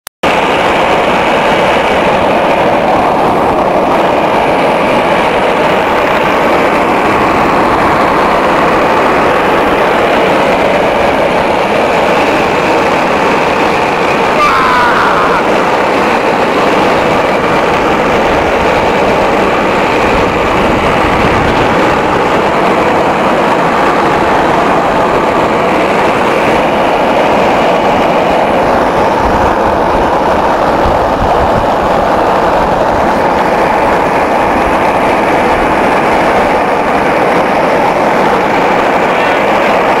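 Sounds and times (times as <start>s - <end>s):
wind rumbling on microphone: 0.2s - 40.0s.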